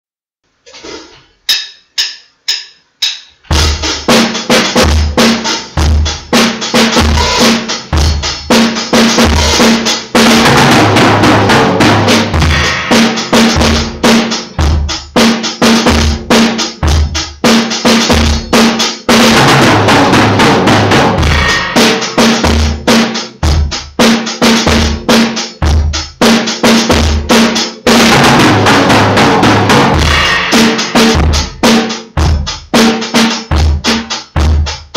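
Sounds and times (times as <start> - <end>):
bass drum and snare beat: 1.5 - 34.9.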